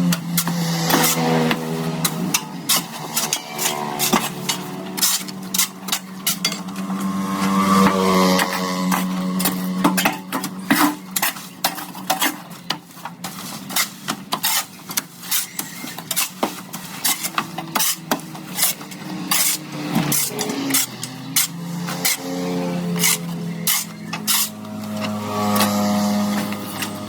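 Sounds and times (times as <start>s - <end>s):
hard objects clattering and scraping: 0.0s - 27.0s.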